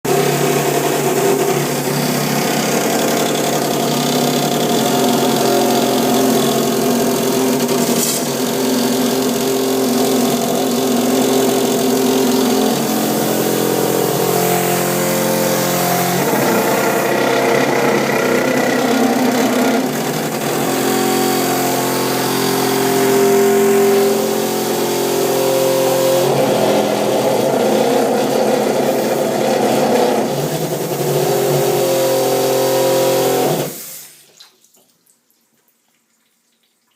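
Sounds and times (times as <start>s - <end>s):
water pipes vibrating and droning: 0.1s - 36.9s.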